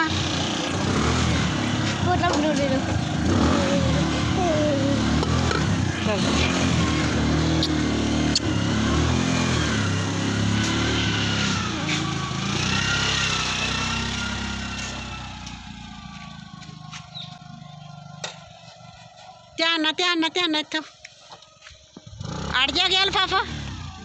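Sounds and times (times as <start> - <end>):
motorcycle engine pulling away: 0.0 - 24.0.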